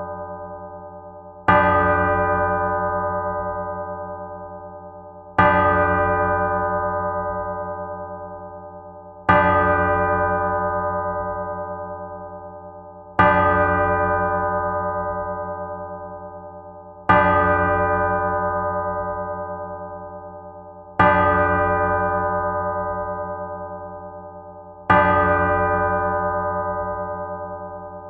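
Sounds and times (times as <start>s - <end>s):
church bell tolling: 0.0s - 28.0s.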